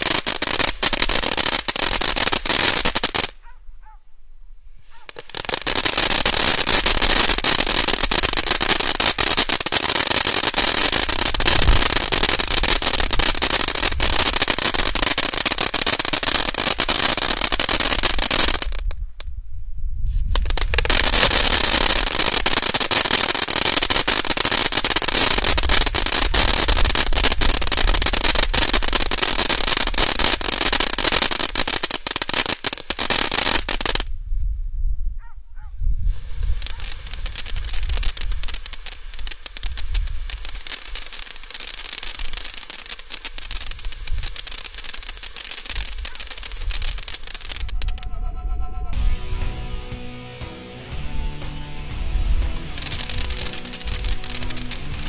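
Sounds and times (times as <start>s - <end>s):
firework fountain hissing and crackling: 0.0s - 3.4s, 4.6s - 34.2s, 36.0s - 55.0s.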